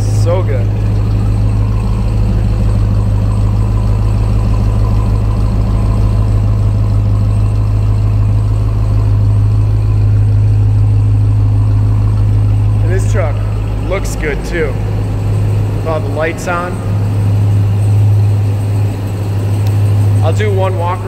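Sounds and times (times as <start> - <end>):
vee eight engine idling: 0.0 - 21.0.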